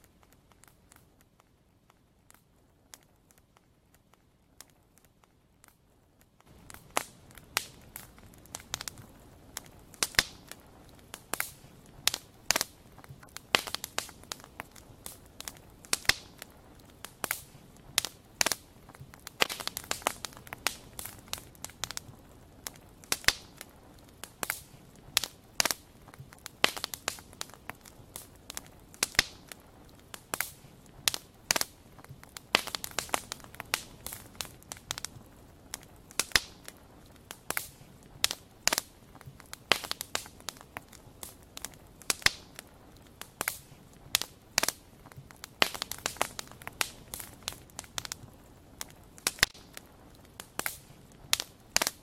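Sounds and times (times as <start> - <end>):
faint low hiss: 0.0 - 52.0
wood fire crackling: 0.0 - 52.0.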